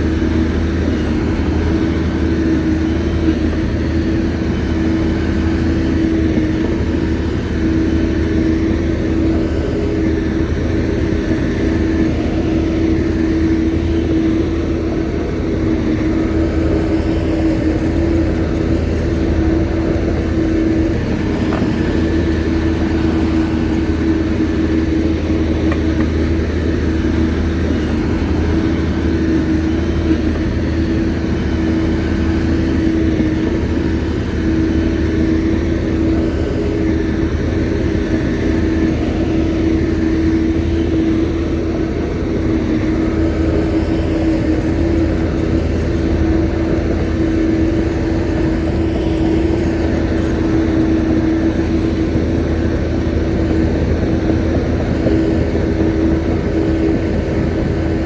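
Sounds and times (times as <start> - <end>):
bulldozer diesel engine running: 0.0 - 58.0
steady humming note: 0.0 - 58.0.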